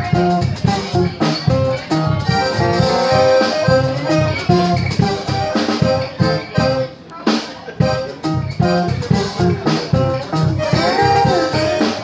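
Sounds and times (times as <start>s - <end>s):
accordion melody: 0.0s - 12.0s
strummed guitar: 0.0s - 12.0s.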